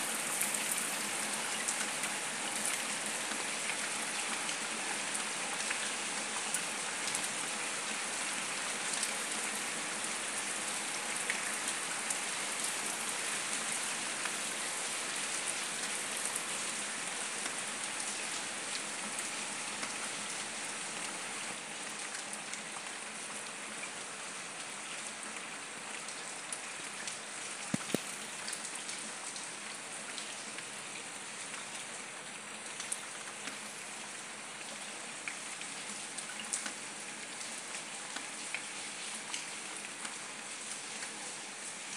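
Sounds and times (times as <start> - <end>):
heavy rain on concrete: 0.0 - 41.9.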